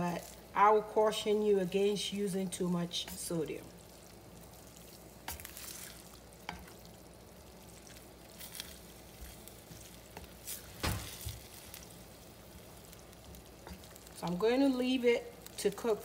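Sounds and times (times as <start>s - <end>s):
low sizzle: 0.0s - 16.0s.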